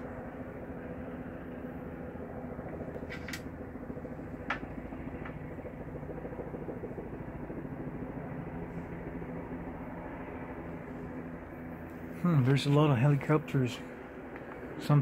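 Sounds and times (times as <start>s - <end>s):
helicopter rotor drone: 0.0s - 15.0s.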